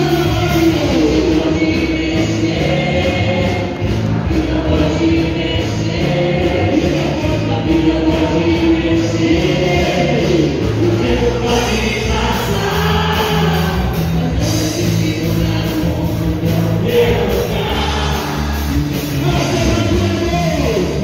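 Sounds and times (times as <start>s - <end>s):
song with singing over beat: 0.0s - 21.0s.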